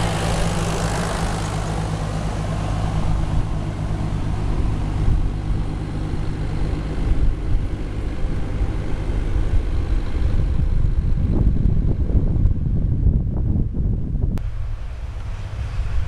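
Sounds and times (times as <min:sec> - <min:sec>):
tractor engine running: 0:00.0 - 0:16.0
wind buffeting microphone: 0:00.0 - 0:16.0.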